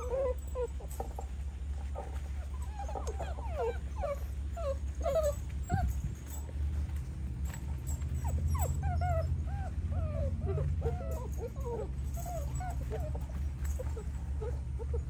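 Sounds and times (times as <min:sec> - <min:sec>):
puppies whining and yelping: 0:00.0 - 0:15.0
steady low rumble: 0:00.0 - 0:15.0.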